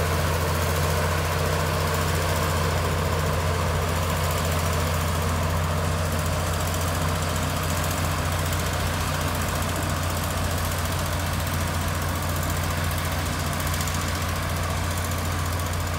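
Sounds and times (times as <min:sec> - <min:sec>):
diesel engine humming: 0:00.0 - 0:15.9.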